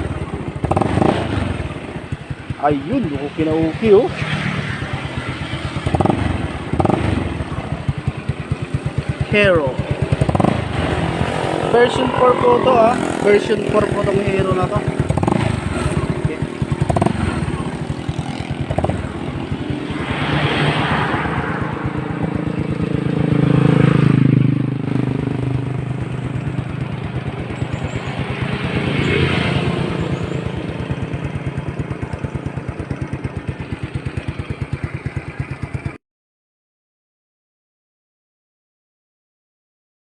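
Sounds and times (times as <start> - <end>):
scooter engine idling and revving: 0.0 - 36.0.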